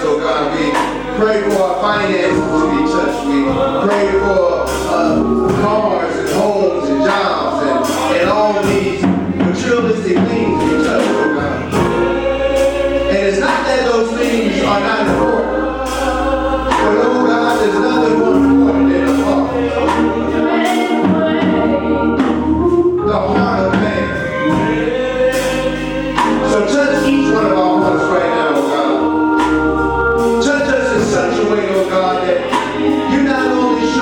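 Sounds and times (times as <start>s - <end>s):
gospel choir singing: 0.0s - 34.0s
instrumental accompaniment with bass: 0.0s - 34.0s.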